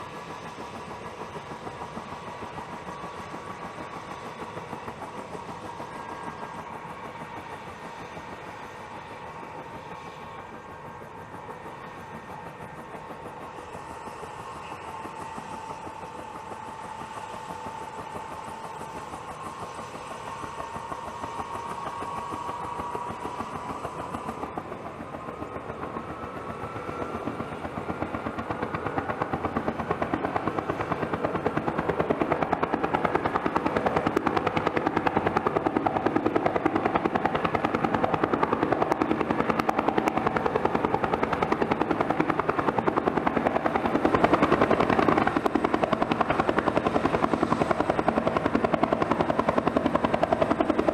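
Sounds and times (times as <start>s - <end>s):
helicopter rotor chop: 0.0s - 50.9s
helicopter turbine whine: 0.0s - 50.9s.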